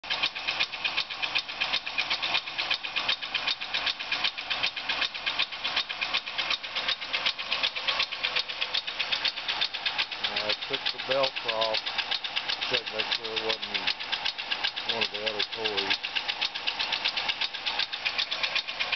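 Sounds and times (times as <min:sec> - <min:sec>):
car engine running: 0:00.0 - 0:18.9
fast even valvetrain ticking: 0:00.0 - 0:18.9.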